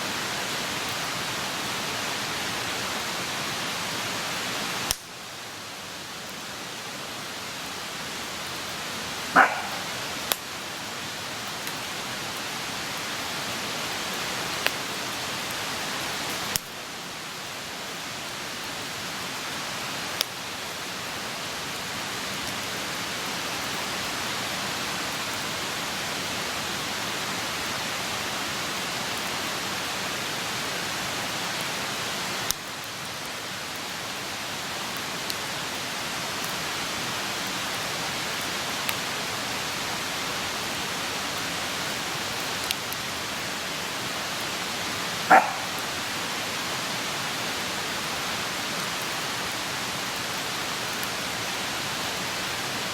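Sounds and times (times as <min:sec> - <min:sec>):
sharp crackles of fire: 0:00.1 - 0:52.9
campfire burning: 0:00.4 - 0:23.8, 0:26.8 - 0:52.9.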